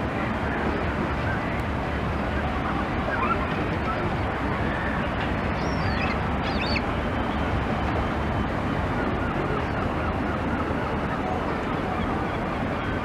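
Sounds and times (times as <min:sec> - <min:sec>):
sea surf: 0:00.0 - 0:13.0.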